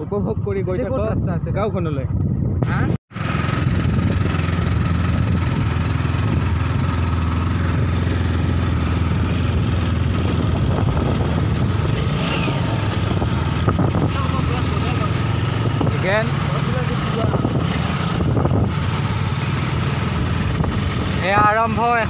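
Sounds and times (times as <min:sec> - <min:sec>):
motorcycle engine running: 0:03.1 - 0:22.0.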